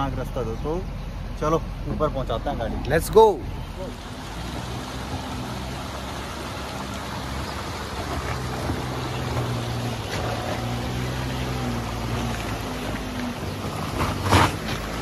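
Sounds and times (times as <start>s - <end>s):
car engine droning uphill: 0.0s - 15.0s.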